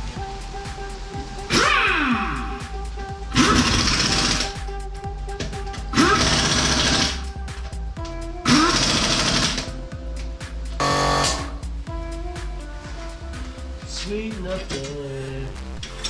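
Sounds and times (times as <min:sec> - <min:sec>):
rhythmic electronic music: 0:00.0 - 0:16.0.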